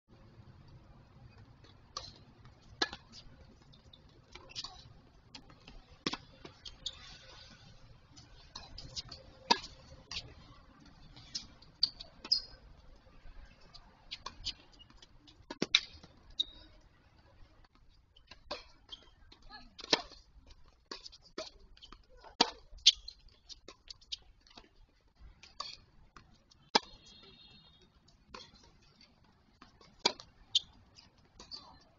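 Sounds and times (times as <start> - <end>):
tennis ball bouncing: 1.2 - 16.6, 17.6 - 31.8
rackets striking tennis ball: 1.3 - 13.0, 13.6 - 16.4, 17.7 - 31.9.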